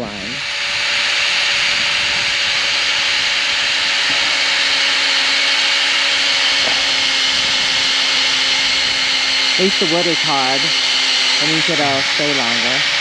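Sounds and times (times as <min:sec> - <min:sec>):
cordless drill motor whine: 0:00.0 - 0:13.0
drill bit grinding into wood: 0:00.0 - 0:13.0.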